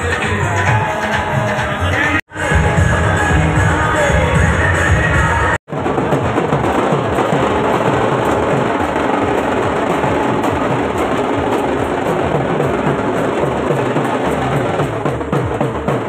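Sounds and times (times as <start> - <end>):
procession music with drumming: 0.0 - 16.0
street and crowd noise: 0.0 - 16.0.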